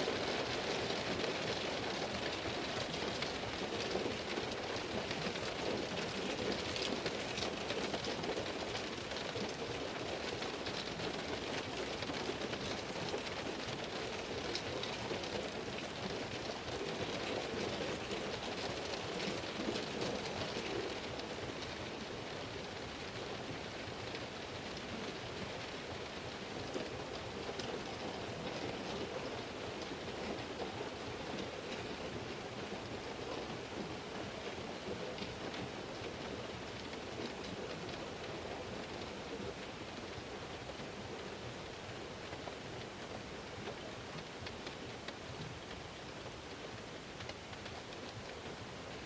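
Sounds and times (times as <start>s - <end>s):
heavy rain on car: 0.0s - 49.0s.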